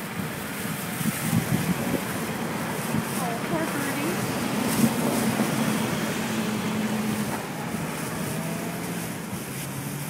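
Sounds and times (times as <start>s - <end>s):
wind noise on microphone: 0.0s - 10.0s.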